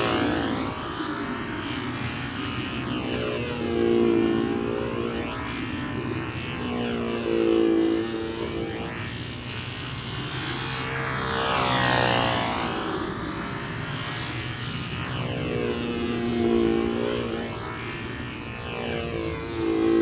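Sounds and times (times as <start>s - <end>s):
model aircraft engine buzzing: 0.0s - 20.0s.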